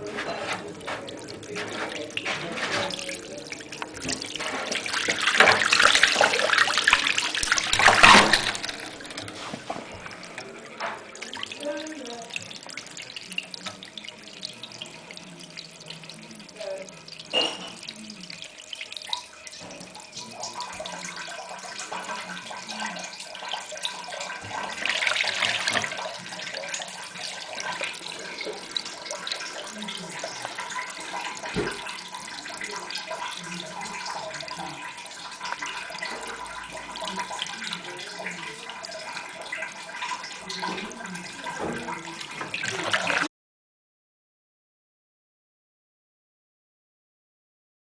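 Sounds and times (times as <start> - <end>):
water running and trickling: 0.0 - 43.3.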